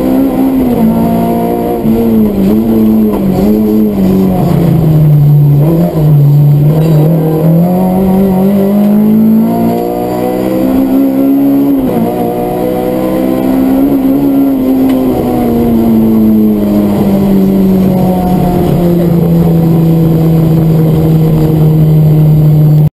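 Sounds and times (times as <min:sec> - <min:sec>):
rally car engine revving: 0:00.0 - 0:22.9.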